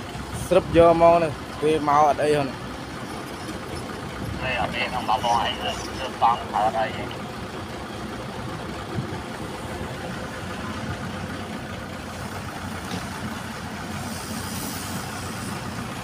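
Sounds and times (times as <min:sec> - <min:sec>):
heavy diesel engine idling: 0:00.0 - 0:16.0.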